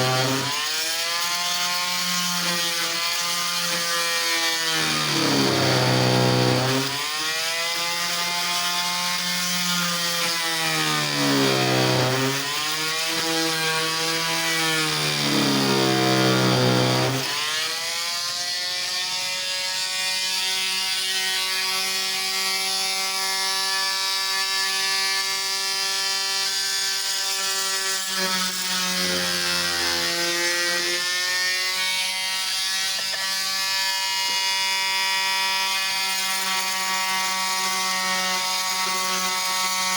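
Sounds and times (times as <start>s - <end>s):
oscillating saw cutting wood: 0.0s - 39.9s.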